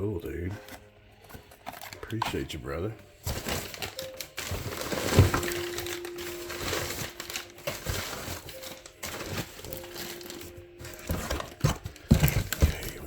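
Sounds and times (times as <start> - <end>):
packaging crinkling and rustling: 0.2 - 13.0.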